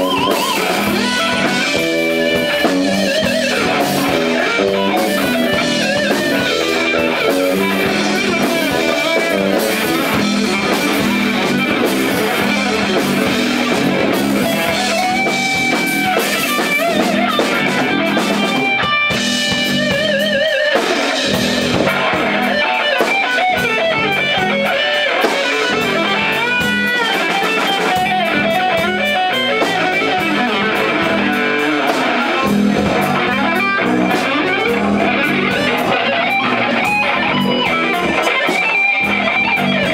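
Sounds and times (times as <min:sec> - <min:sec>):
drums: 0:00.0 - 0:39.9
electric guitar lead lines: 0:00.0 - 0:39.9
guitar notes with wavering vibrato: 0:00.0 - 0:39.9
live rock band: 0:00.0 - 0:39.9.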